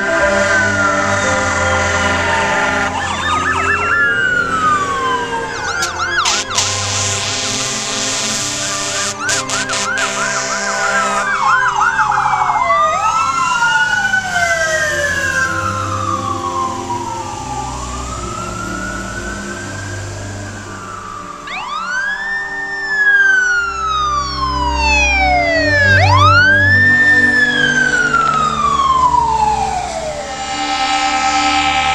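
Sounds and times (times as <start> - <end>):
fast yelp siren: 0.0 - 31.9
slow wail siren: 0.0 - 31.9.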